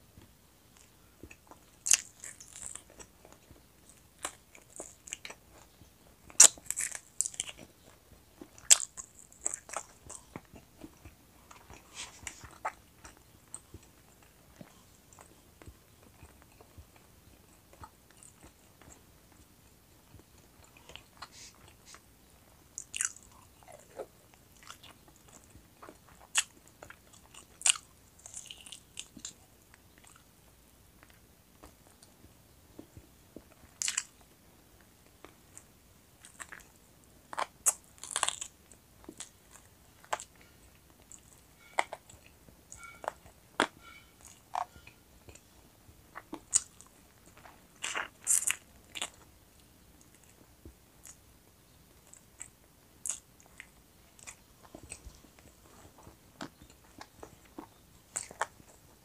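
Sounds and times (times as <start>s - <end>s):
crunchy chewing: 0.2s - 30.3s, 31.0s - 59.0s.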